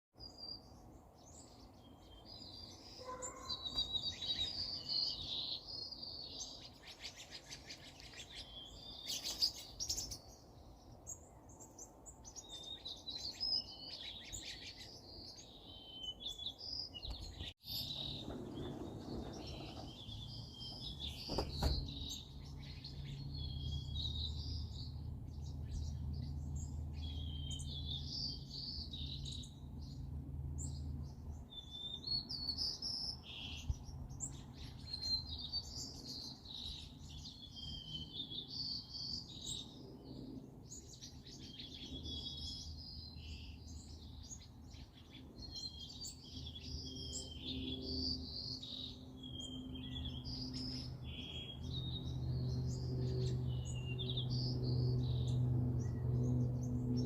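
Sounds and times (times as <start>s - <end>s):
songbirds chirping and singing: 0.2s - 57.0s.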